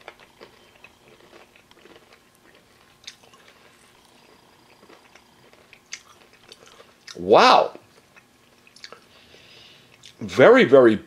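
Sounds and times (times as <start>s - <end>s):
chewing crispy food: 0.0s - 10.3s.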